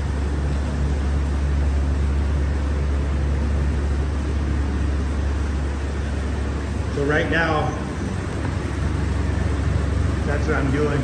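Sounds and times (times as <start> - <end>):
ventilation hum and air hiss: 0.0 - 11.0.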